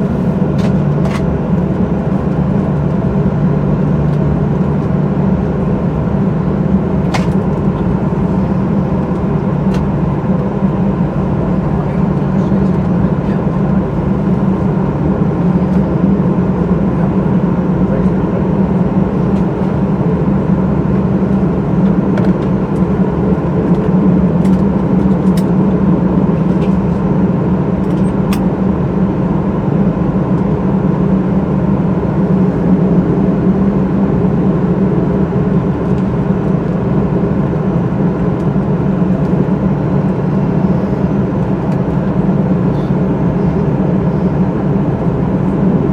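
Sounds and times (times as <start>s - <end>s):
cabin air system hum: 0.0s - 45.9s
jet engines idling: 0.0s - 45.9s.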